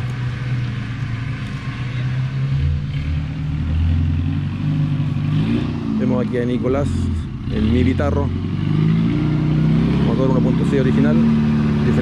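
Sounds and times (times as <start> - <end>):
deeper engine note: 0.0 - 12.0
engine running steadily: 0.0 - 12.0.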